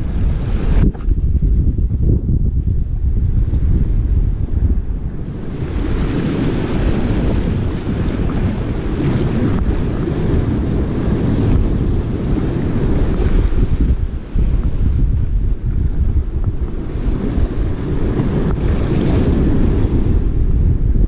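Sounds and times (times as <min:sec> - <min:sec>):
waves washing over rocks: 0:00.0 - 0:01.6, 0:02.6 - 0:21.0
wind buffeting microphone: 0:00.0 - 0:21.0.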